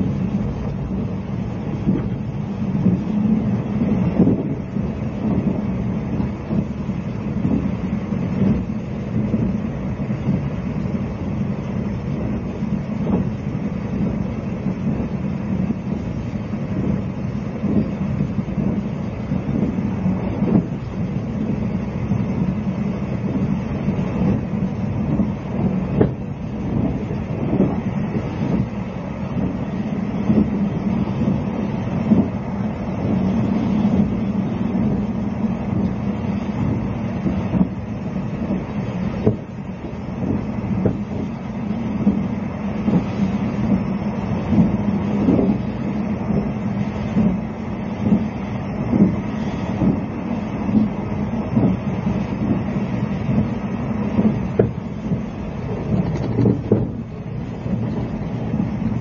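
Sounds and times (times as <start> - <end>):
train coach rumbling hum: 0.0 - 59.0.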